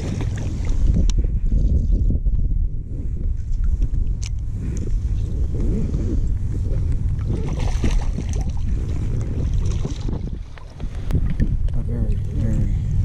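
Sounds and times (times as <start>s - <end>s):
water lapping against float tube: 0.0s - 2.1s, 3.5s - 12.5s
wind buffeting microphone: 0.0s - 13.0s.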